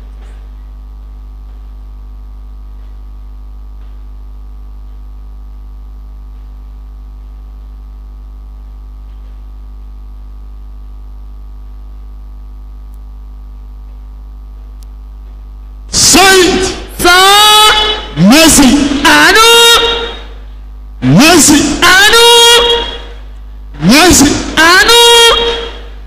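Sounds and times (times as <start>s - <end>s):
electrical hum with buzz: 0.0s - 26.0s.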